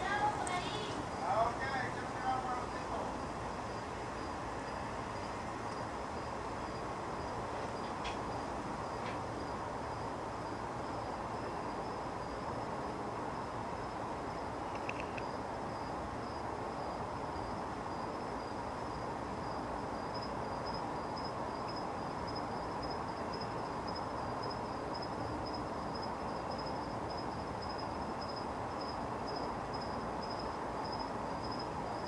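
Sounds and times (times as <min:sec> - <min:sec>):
insect trilling: 0:00.0 - 0:07.4, 0:08.3 - 0:32.0.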